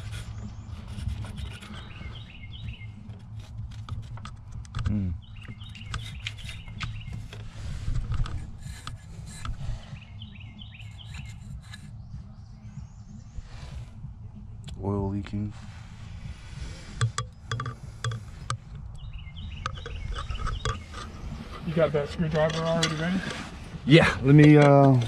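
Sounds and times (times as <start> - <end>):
hand rubbing and scraping: 0.0 - 4.8, 5.5 - 14.5, 15.2 - 25.0
birds chirping: 0.0 - 25.0.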